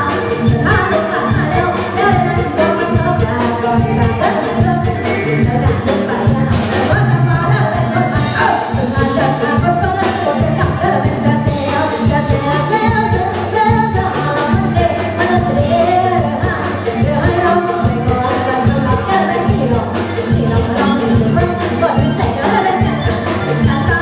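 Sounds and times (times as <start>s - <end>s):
band with drums and keyboard: 0.0s - 24.0s
woman singing into microphone: 0.0s - 24.0s.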